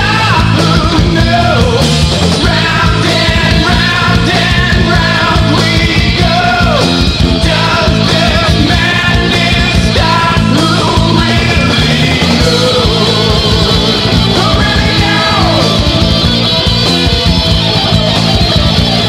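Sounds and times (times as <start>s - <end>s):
high lead guitar melody: 0.0s - 19.0s
metal band playing: 0.0s - 19.0s.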